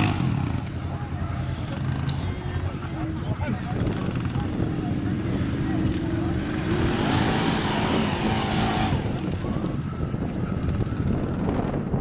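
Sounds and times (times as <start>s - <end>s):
quad engine under throttle: 0.0s - 12.0s.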